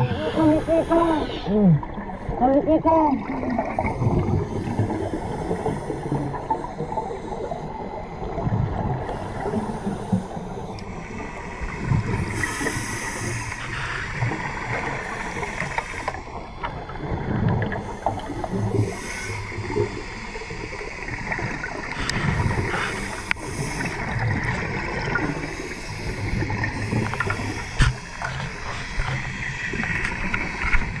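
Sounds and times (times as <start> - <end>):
exhaled bubbles gurgling: 0.0 - 31.0.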